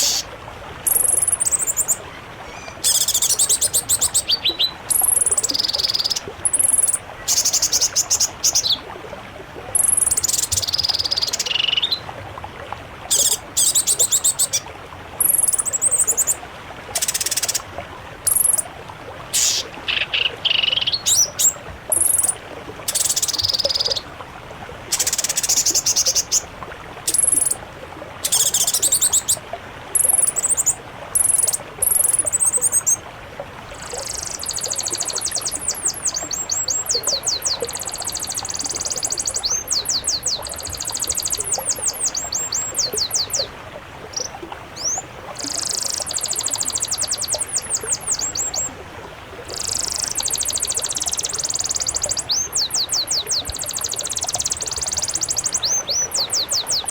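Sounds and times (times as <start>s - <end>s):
songbirds trilling and chattering: 0.0s - 8.8s, 9.8s - 12.0s, 13.1s - 14.6s, 15.2s - 16.4s, 17.0s - 17.7s, 18.3s - 18.6s, 19.4s - 24.0s, 27.1s - 27.6s, 28.2s - 29.4s, 30.0s - 33.0s, 33.7s - 48.8s, 49.4s - 56.9s.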